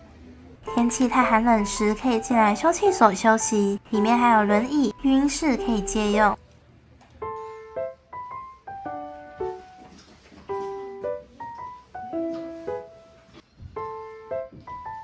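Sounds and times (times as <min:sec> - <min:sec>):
slow piano melody: 0:00.6 - 0:06.5, 0:07.1 - 0:15.0.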